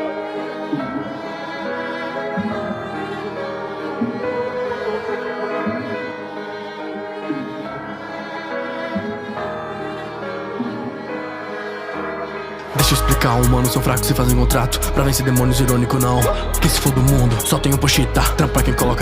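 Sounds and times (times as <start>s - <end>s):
violin and cello playing: 0.0s - 19.0s.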